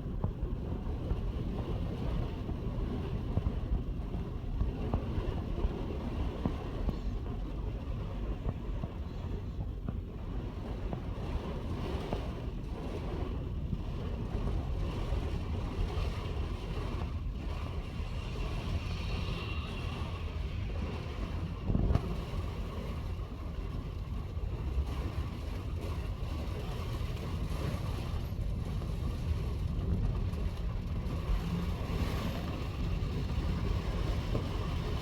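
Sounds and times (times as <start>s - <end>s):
strong gusty wind: 0.0s - 35.0s.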